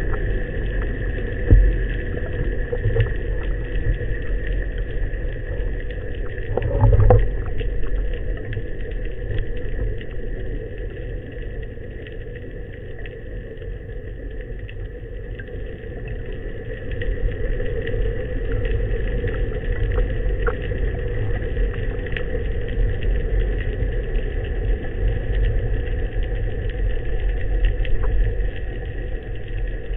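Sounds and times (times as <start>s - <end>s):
faint clicks and crackles: 0.0s - 29.9s
underwater rumble of moving water: 0.0s - 29.9s.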